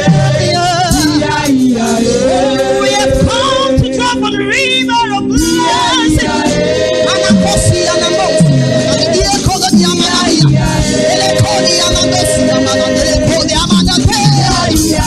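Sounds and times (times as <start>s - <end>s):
percussion hits: 0.0s - 4.0s, 5.3s - 15.0s
gospel choir singing: 0.0s - 15.0s
instrumental backing: 0.0s - 15.0s.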